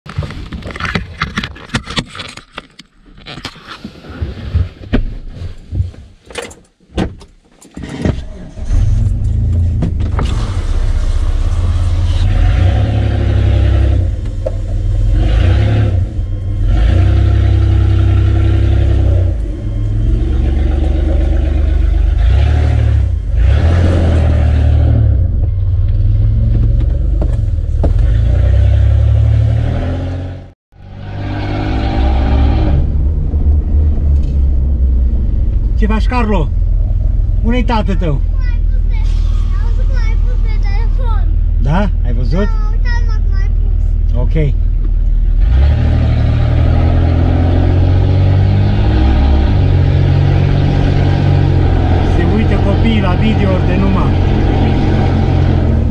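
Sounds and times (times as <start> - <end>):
car engine inside cabin: 8.1 - 55.9.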